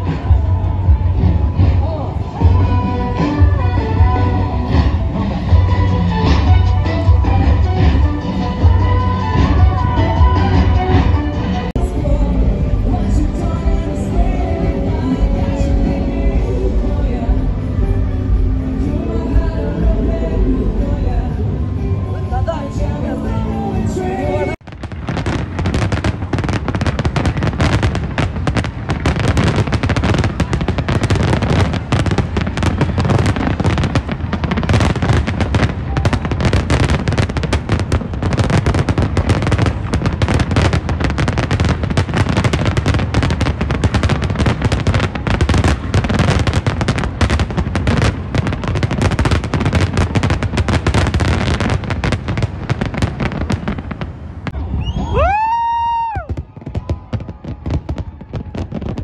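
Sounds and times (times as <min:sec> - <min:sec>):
fireworks bangs and crackles: 0:00.0 - 0:17.5, 0:24.6 - 0:59.0.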